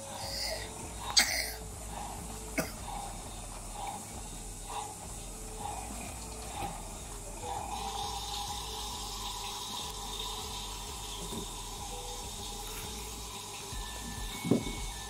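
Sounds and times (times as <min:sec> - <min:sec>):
running water sound effect: 0:00.0 - 0:15.0
toy washing machine running: 0:00.0 - 0:15.0.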